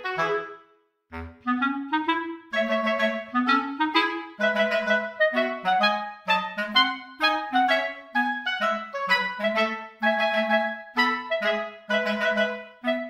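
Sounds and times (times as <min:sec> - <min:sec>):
instrumental music with short notes: 0:00.0 - 0:13.0.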